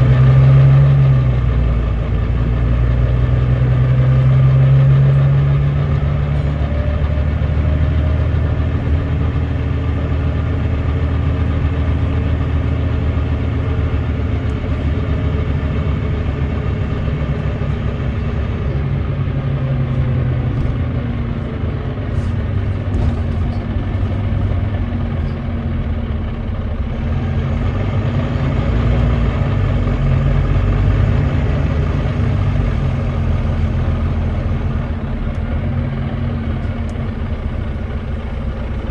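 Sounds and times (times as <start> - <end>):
bus diesel engine under load: 0.0 - 38.9.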